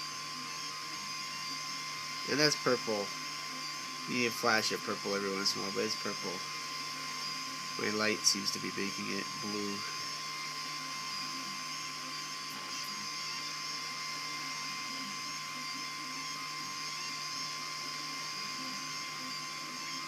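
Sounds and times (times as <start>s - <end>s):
stepper motors whirring: 0.0s - 20.0s
thin high whine: 0.0s - 20.0s.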